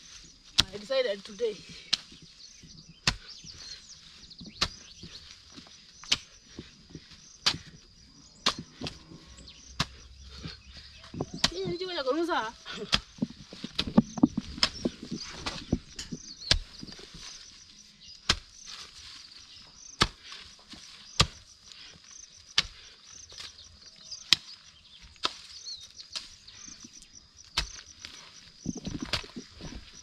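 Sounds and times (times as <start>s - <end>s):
hoe chopping wet soil: 0.5s - 30.0s.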